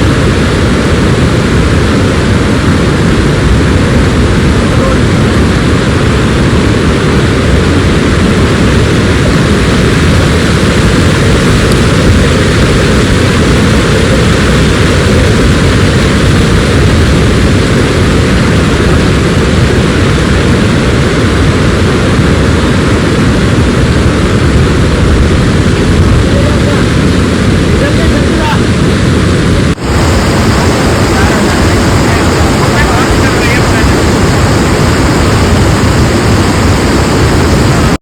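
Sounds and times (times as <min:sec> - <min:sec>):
waterfall roaring: 0:00.0 - 0:38.0.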